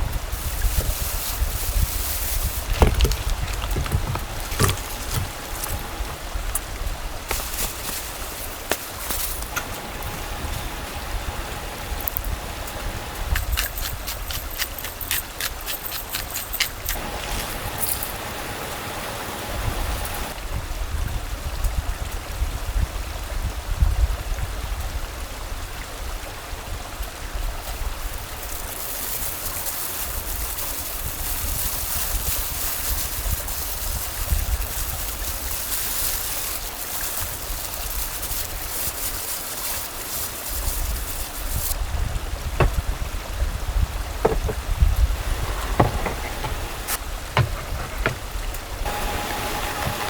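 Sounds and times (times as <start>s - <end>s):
stream water rushing: 0.0s - 20.5s, 24.7s - 50.0s.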